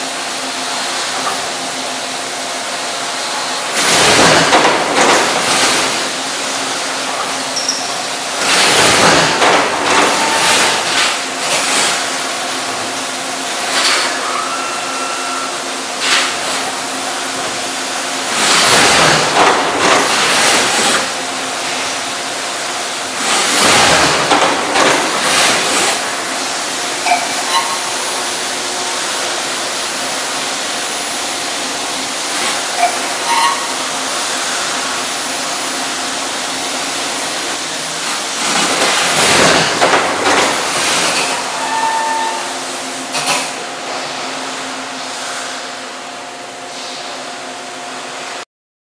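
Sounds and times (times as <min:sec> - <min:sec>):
machine hum: 0:00.0 - 0:46.6.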